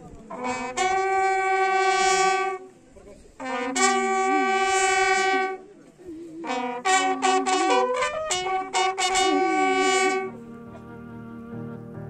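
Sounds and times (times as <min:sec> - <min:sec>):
bugle call: 0:00.3 - 0:02.7, 0:03.4 - 0:05.7, 0:06.4 - 0:11.7.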